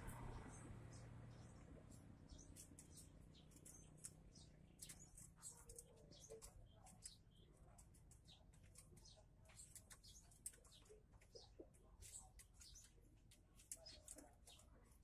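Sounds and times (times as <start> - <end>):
faint high-pitched bird chirps: 0.1 - 15.0.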